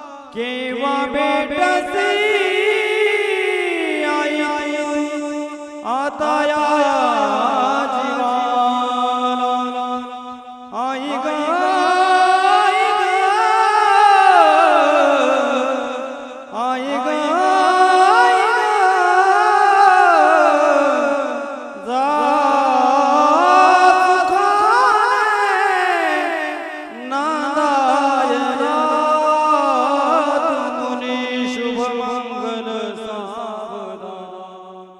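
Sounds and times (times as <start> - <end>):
man singing: 0.0 - 34.9.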